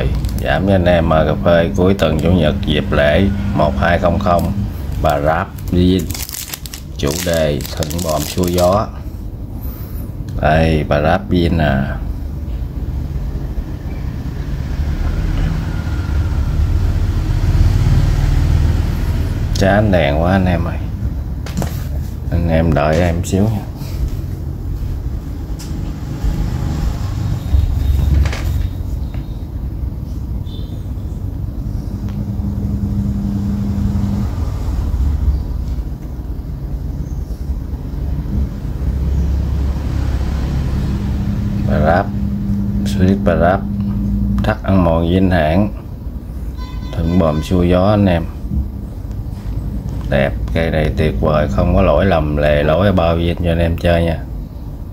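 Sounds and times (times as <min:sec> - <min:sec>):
low hum: 0:00.0 - 0:53.0
vehicle engine rumbling: 0:00.0 - 0:53.1.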